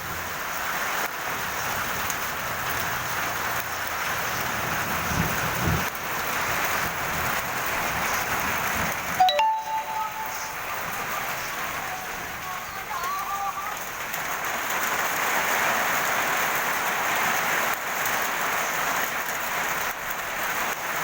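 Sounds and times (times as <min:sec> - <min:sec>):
rain falling on garden: 0:00.0 - 0:21.0.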